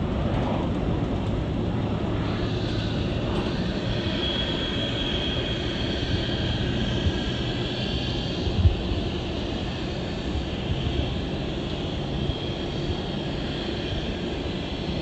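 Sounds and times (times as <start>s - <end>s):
high-pitched jet whine: 0.0s - 15.0s
jet engines rumbling: 0.0s - 15.0s.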